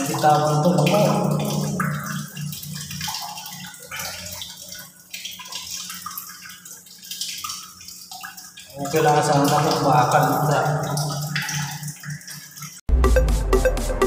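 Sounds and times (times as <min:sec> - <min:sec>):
water dripping: 0:00.0 - 0:12.9
water trickling and splattering: 0:00.0 - 0:12.9.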